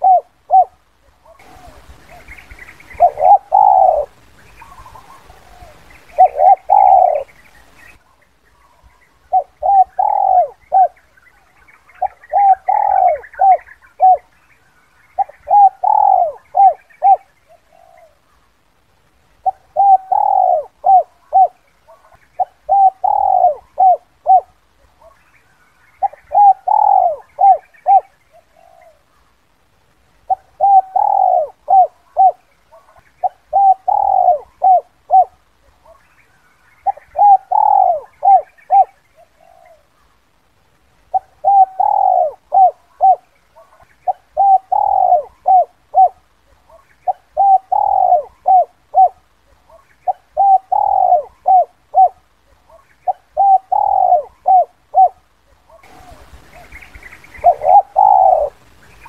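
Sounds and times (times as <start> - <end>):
dove cooing: 0.0 - 11.2, 11.9 - 14.4, 15.1 - 18.3, 19.4 - 25.2, 25.9 - 29.2, 30.2 - 36.1, 36.8 - 40.1, 41.1 - 59.0.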